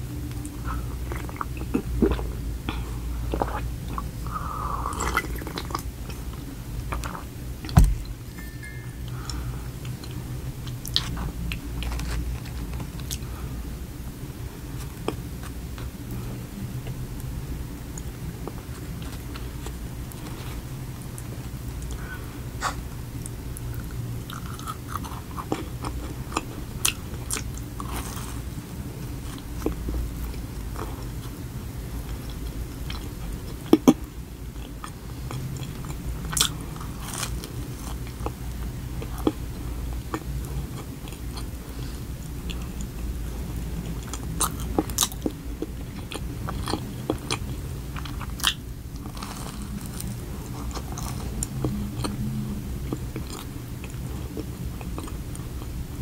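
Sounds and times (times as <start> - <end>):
chewing with crunches: 0.3 - 7.3, 17.8 - 56.0.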